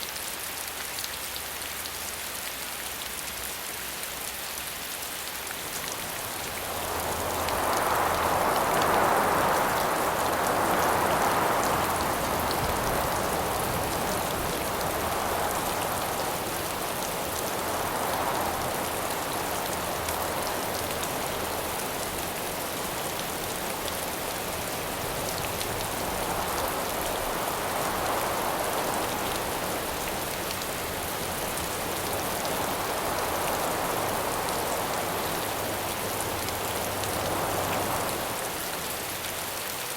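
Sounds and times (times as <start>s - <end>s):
steady rain: 0.0s - 39.9s
howling wind gusts: 5.4s - 39.5s.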